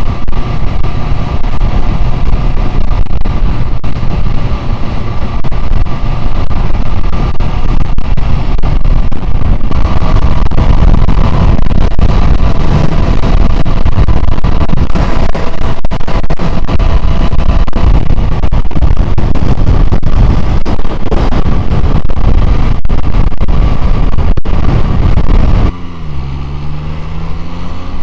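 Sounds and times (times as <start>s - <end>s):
motorcycle engine: 0.0s - 28.0s
wind rushing over microphone: 0.0s - 28.0s.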